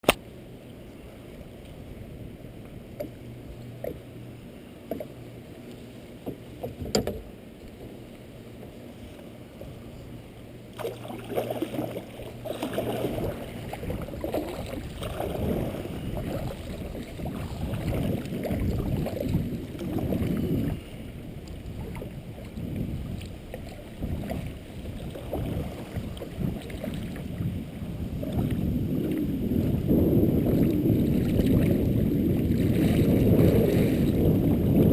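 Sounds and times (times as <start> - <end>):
paddle strokes splashing in water: 0.0 - 34.9.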